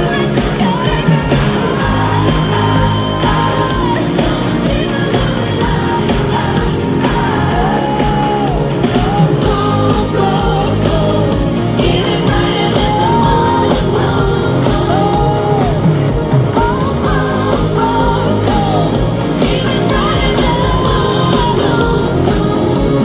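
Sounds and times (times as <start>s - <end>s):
rock band playing: 0.0s - 23.0s
woman singing: 0.0s - 23.0s.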